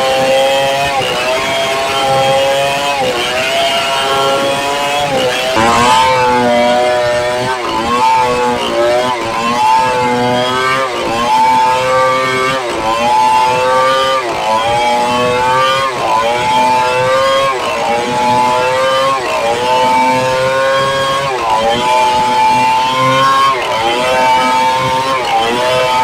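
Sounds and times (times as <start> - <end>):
chainsaw cutting a log: 0.0 - 26.0.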